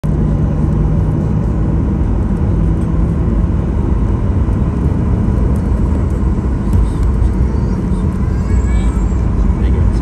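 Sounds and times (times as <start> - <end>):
jet engines rumbling from cabin: 0.0 - 10.0.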